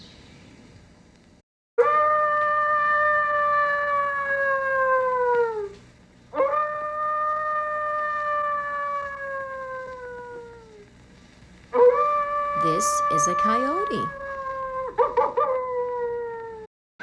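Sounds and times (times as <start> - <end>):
coyote howling: 1.8 - 10.8, 11.8 - 16.7.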